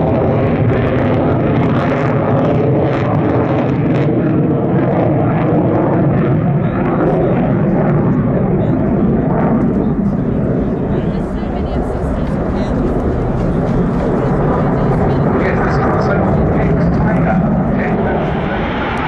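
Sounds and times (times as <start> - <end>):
jet engine roaring: 0.0 - 19.0.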